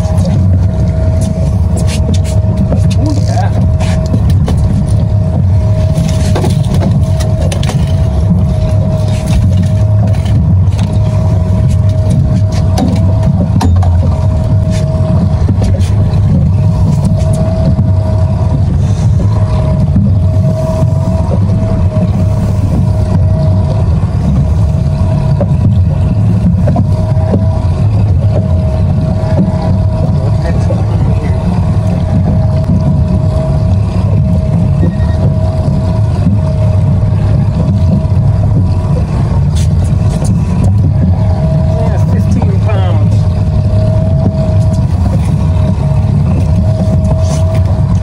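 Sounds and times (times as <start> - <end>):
outboard motor running: 0.0 - 48.0.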